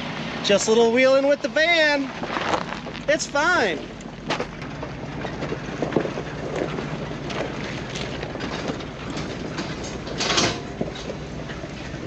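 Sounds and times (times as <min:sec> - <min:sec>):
vehicle engine on dirt road: 0:00.0 - 0:12.0.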